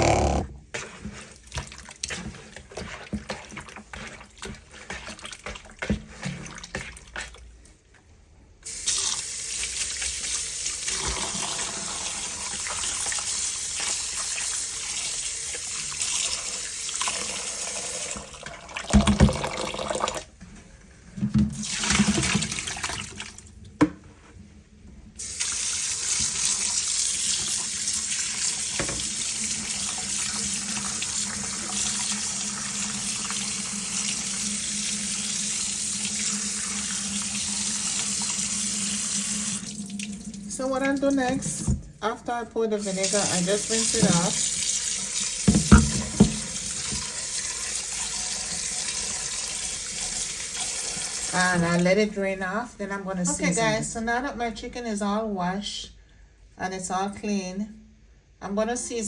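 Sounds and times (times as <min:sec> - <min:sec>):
tap water running: 0:00.0 - 0:07.4, 0:08.6 - 0:20.4, 0:21.2 - 0:24.0, 0:25.1 - 0:52.1.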